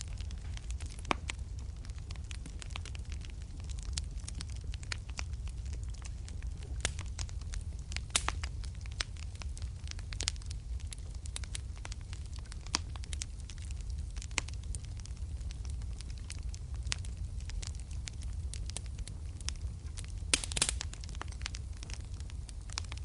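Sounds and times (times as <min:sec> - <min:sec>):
fireplace fire crackling: 0:00.0 - 0:23.0
loud fire pops: 0:00.0 - 0:23.0.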